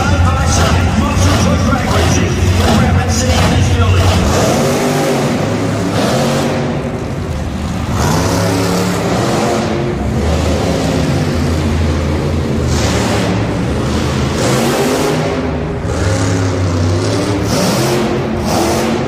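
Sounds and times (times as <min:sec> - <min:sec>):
monster truck engines revving: 0:00.0 - 0:19.0.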